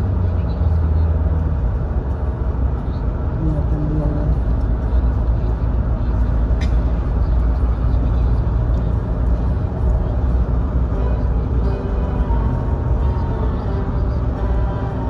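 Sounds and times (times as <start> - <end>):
vehicle tyre and engine rumble: 0.0 - 15.0.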